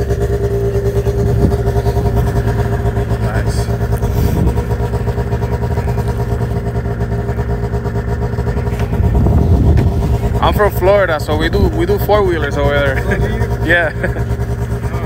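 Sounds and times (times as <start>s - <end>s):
snowmobile engine idling: 0.0s - 15.0s.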